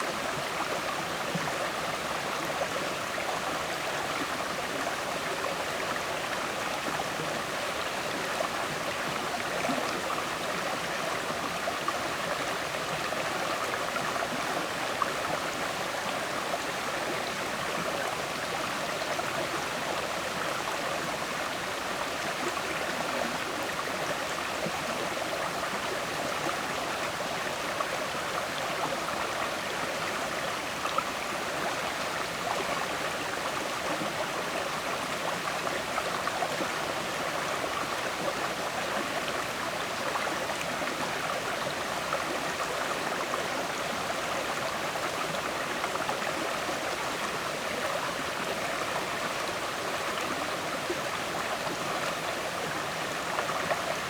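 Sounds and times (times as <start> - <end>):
river water flowing and gurgling: 0.0 - 54.0.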